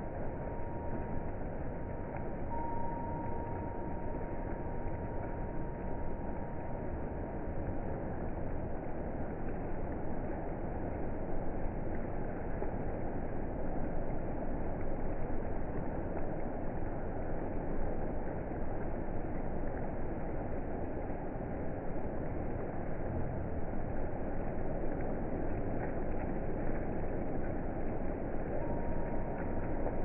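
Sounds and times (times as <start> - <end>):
low rushing storm noise: 0.0 - 30.0.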